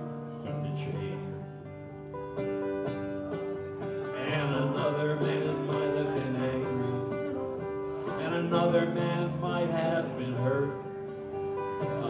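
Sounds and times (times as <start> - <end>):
acoustic guitar strumming: 0.0 - 12.0
second guitar playing: 0.0 - 12.0.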